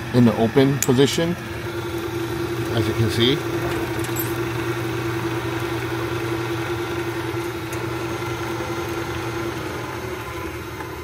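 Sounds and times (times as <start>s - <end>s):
gate opener motor humming: 0.0s - 11.0s.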